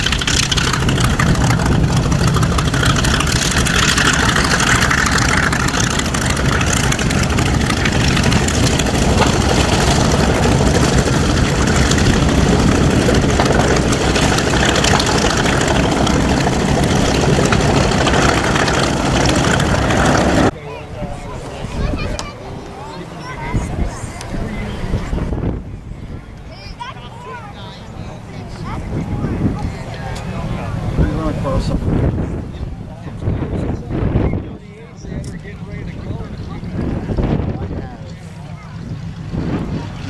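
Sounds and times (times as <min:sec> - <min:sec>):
large engine running: 0:00.0 - 0:40.0.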